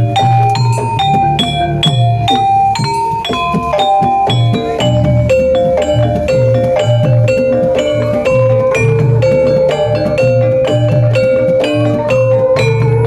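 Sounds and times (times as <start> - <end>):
metallophone melody: 0.0 - 13.0
steady drum beat: 0.0 - 13.0.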